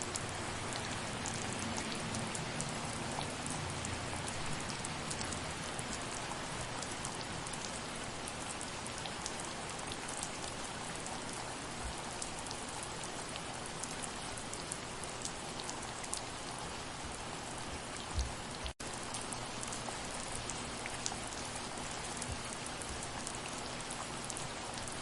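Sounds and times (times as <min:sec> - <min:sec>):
raindrop ticks: 0:00.0 - 0:16.3, 0:17.0 - 0:25.0
soft rain: 0:00.0 - 0:25.0.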